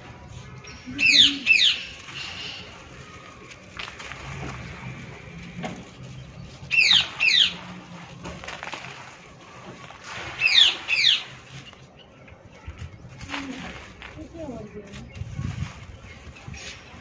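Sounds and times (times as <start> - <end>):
dry soil crumbling by hand: 0.0 - 17.0
bird calling: 0.3 - 15.3.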